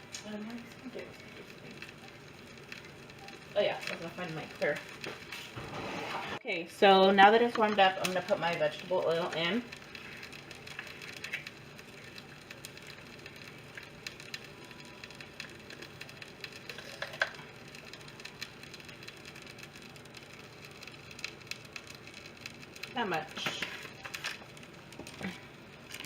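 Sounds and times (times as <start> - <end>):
oil crackling in frying pan: 0.0 - 5.7, 6.3 - 26.0.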